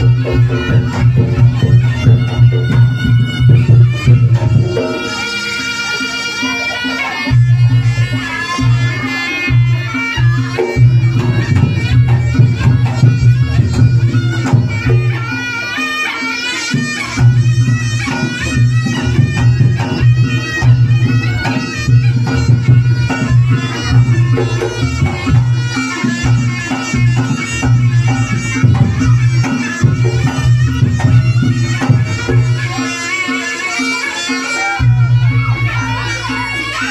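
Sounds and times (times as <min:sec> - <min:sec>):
drums: 0:00.0 - 0:36.9
shawm playing nasal melody: 0:00.0 - 0:36.9.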